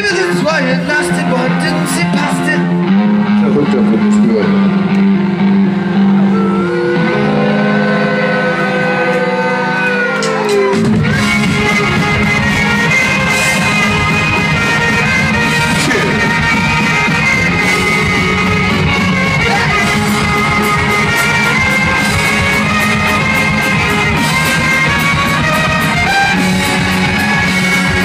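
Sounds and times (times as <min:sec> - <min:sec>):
live band with electric guitar: 0:00.0 - 0:28.0.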